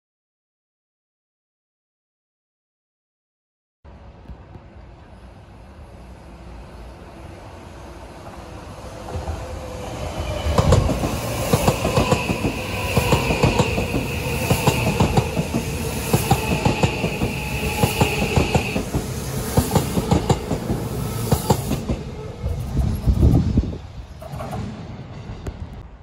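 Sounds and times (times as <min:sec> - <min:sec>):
train rumble: 0:03.9 - 0:26.0.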